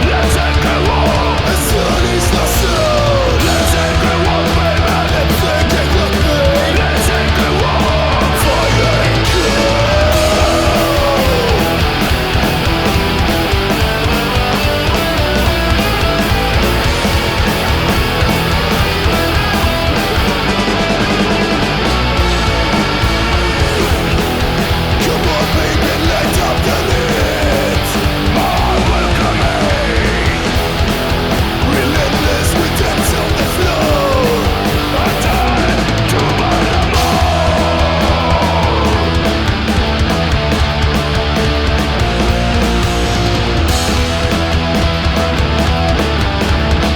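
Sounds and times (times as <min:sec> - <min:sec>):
bending lead guitar notes: 0:00.0 - 0:46.9
punk rock band playing: 0:00.0 - 0:46.9.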